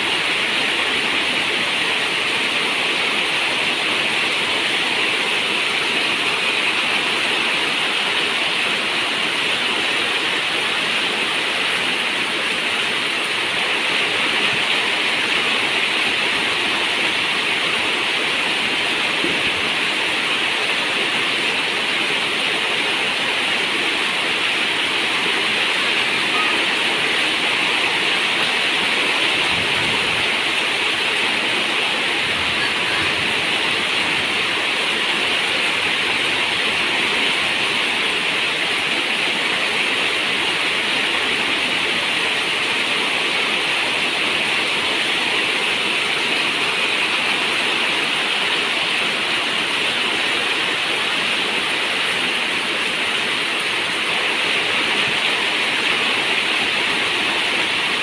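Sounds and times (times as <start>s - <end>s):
rain on metal roof: 0.4s - 58.0s.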